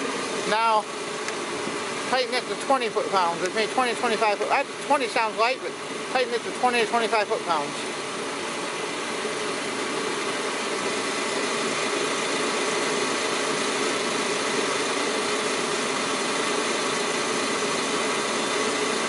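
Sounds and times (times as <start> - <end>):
steady engine-like drone: 0.0 - 19.0.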